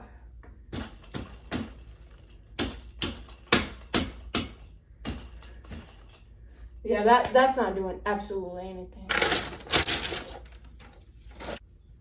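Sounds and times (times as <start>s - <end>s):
parts knocking and clicking together: 0.4s - 7.6s, 9.1s - 11.6s.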